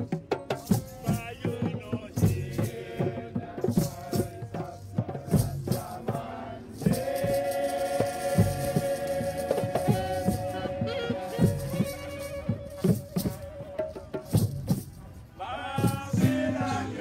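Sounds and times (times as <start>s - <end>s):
hand percussion: 0.0s - 17.0s.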